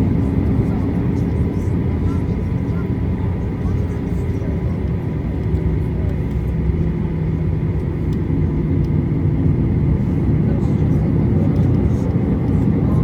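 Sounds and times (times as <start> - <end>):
aircraft cabin rumble and hum: 0.0 - 13.0.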